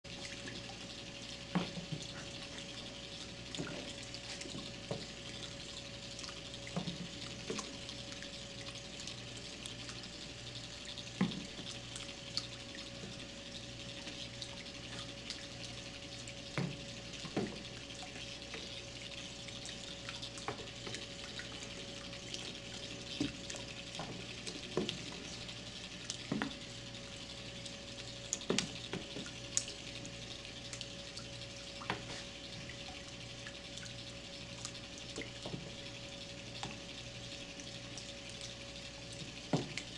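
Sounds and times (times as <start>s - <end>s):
steady motor hum: 0.0s - 39.9s.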